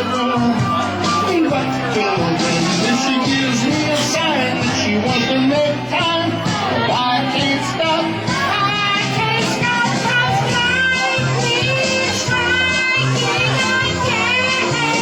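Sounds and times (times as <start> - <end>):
backing track with guitar: 0.0 - 15.0
person singing karaoke: 0.0 - 15.0.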